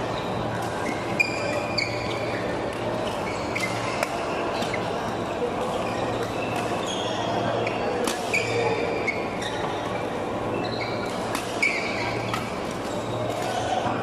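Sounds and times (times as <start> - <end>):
busy hall background noise: 0.0 - 14.0
shoes squeaking on court: 0.1 - 13.8.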